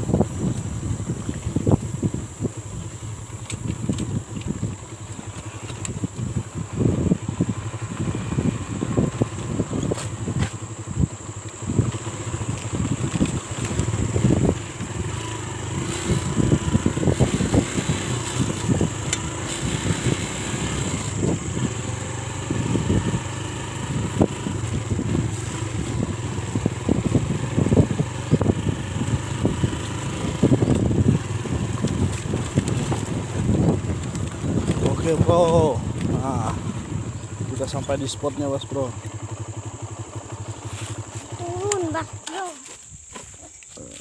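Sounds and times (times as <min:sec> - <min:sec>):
motorcycle engine at low speed: 0:00.0 - 0:44.0.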